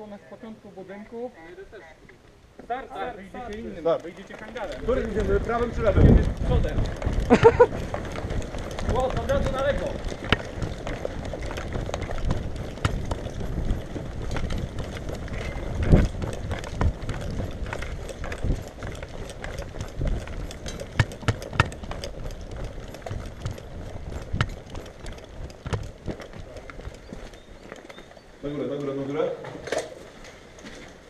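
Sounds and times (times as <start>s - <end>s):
footsteps running on dirt path: 3.3s - 29.1s.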